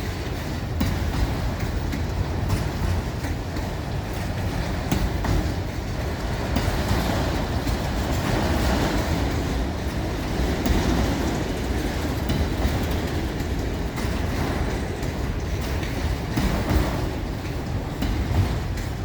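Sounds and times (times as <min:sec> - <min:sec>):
train cars rumbling past: 0:00.0 - 0:19.0
wheels clicking over rail joints: 0:00.0 - 0:19.0.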